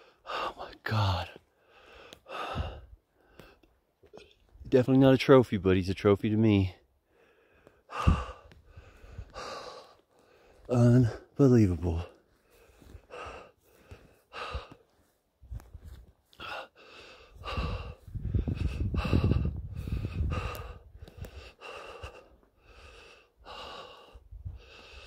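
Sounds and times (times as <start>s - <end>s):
man breathing hard: 0.0s - 3.8s, 7.0s - 25.0s.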